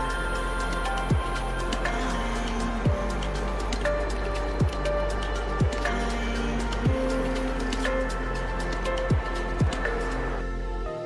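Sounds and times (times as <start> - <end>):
held steady music tones: 0.0 - 11.0.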